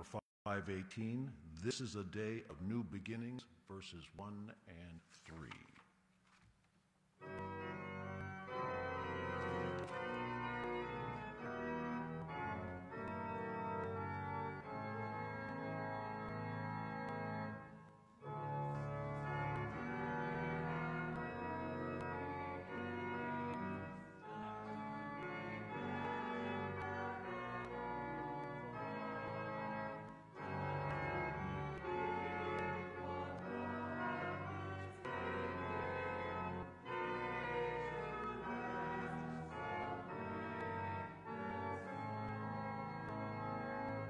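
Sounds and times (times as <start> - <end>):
church organ playing a hymn: 0.0 - 5.5, 7.2 - 44.0.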